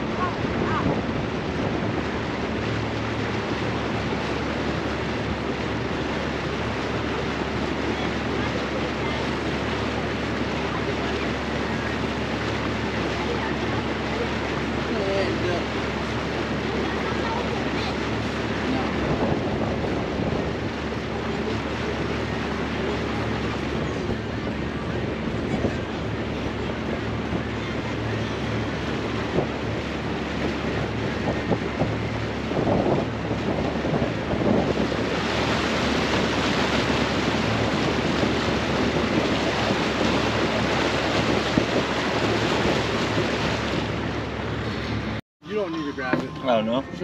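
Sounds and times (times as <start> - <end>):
wind noise on microphone: 0.0 - 14.7, 15.9 - 45.2
water rushing past boat: 0.0 - 47.0.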